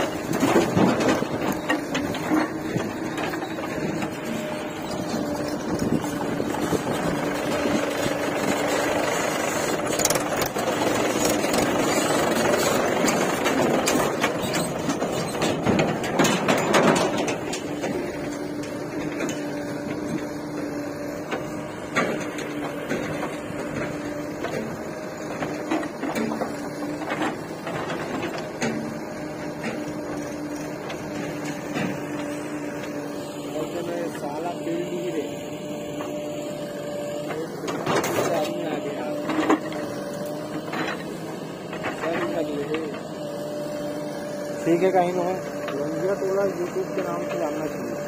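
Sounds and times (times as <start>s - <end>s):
heavy diesel engine humming: 0.0s - 48.0s.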